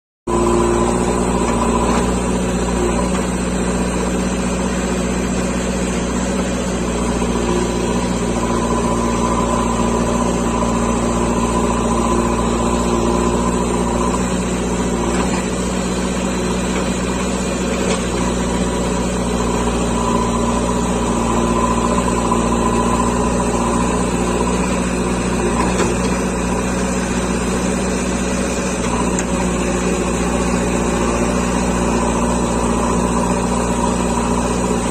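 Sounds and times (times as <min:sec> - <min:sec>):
diesel engine running: 0:00.3 - 0:34.9
high machine whine: 0:06.1 - 0:34.9.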